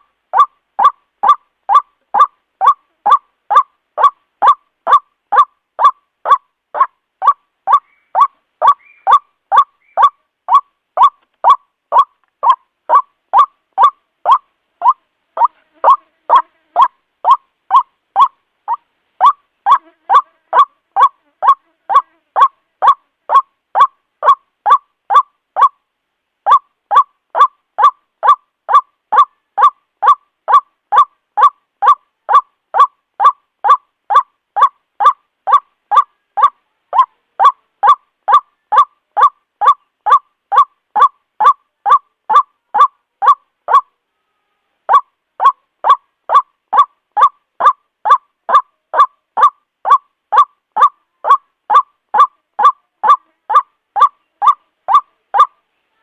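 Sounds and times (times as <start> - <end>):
waterhen calling: 0.0 - 25.8, 26.4 - 43.9, 44.9 - 55.6.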